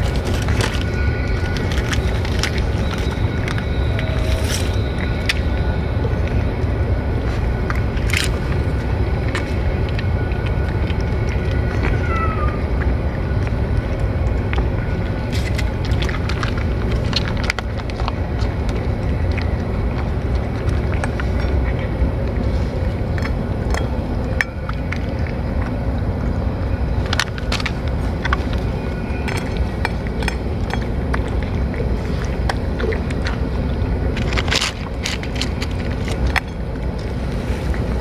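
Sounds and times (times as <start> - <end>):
cats chewing and licking: 0.0 - 38.0
steady low rumble: 0.0 - 38.0.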